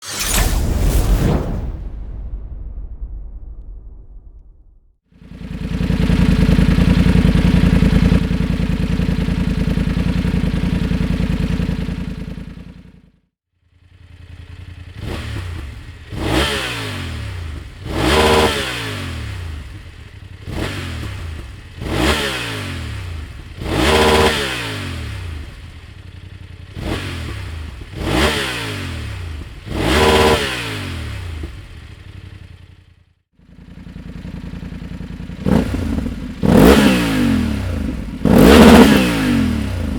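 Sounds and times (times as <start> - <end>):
motorcycle engine revving: 5.1 - 39.9.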